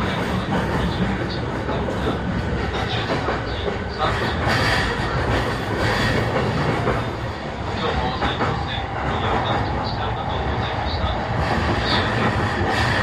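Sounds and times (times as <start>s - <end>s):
electric train running rumble: 0.0s - 13.0s
train wheels on rails: 0.0s - 13.0s.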